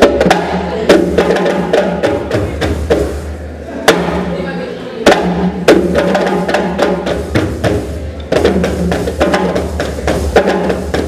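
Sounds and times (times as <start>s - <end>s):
drums and percussion: 0.0s - 4.4s, 5.0s - 11.0s.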